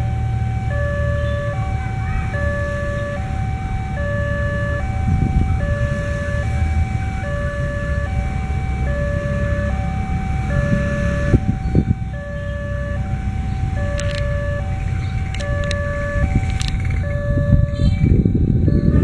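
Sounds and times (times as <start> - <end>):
level-crossing two-tone alarm: 0.0 - 19.0
steady low rumble: 0.0 - 19.0.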